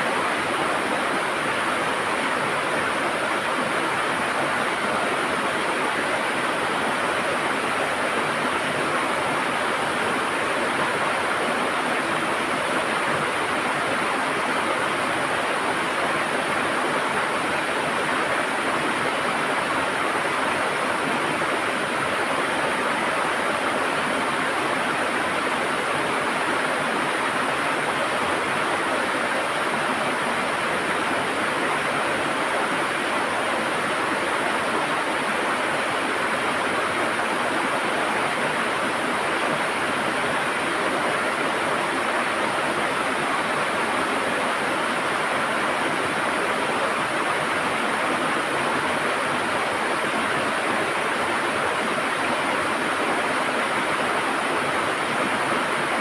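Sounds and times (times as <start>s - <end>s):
river water gurgling and rushing: 0.0s - 56.0s.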